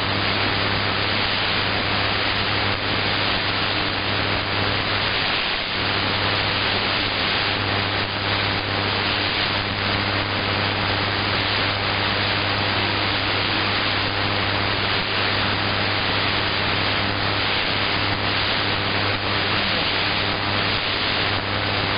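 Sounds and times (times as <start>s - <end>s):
shortwave radio hiss and static: 0.0s - 21.9s.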